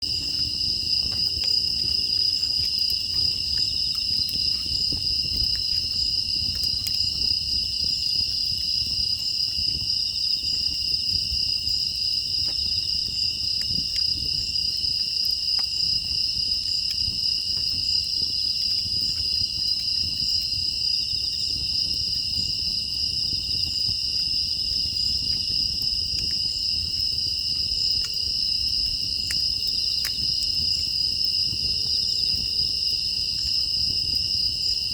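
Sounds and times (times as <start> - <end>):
crickets trilling: 0.0 - 34.9
wood fire burning in furnace: 0.0 - 34.9.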